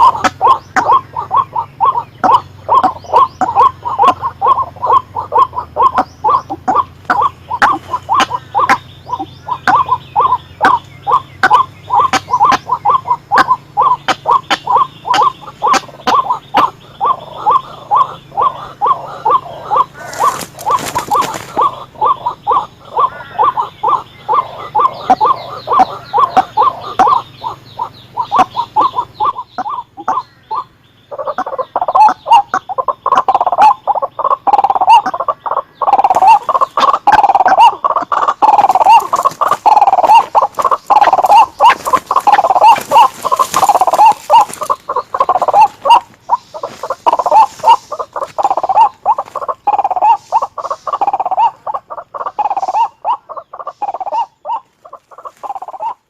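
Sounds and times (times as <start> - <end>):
waterhen harsh calls: 0.0 - 56.0.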